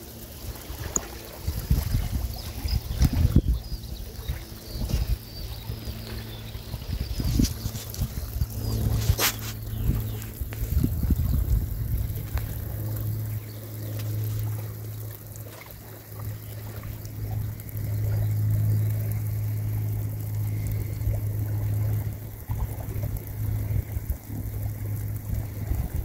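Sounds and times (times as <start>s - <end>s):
light rain on a river: 0.0s - 26.0s
steady low hum: 0.0s - 26.0s.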